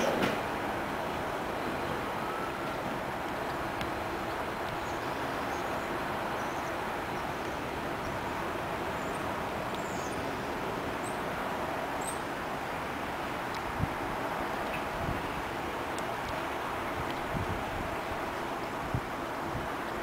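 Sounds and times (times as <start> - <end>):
distant traffic: 0.0 - 20.0.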